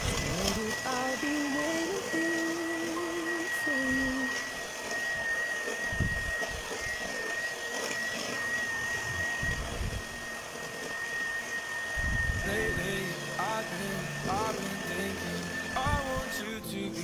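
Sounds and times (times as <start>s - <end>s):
electric hand mixer whining: 0.0s - 17.0s.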